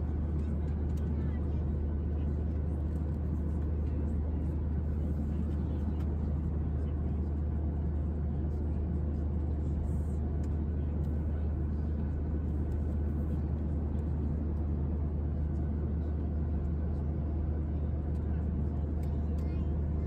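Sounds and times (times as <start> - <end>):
airplane cabin engine rumble: 0.0 - 20.0.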